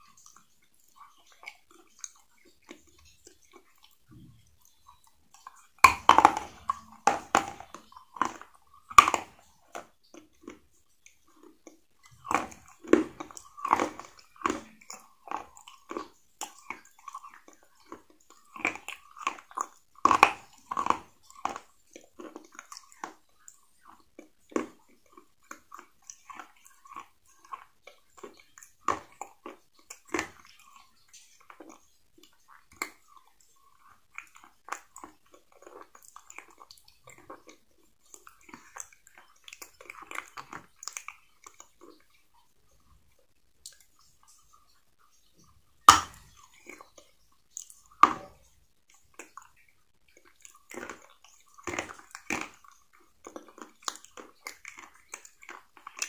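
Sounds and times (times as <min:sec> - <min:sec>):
crunching fried chicken: 0:00.0 - 0:56.0
person chewing: 0:00.0 - 0:56.0.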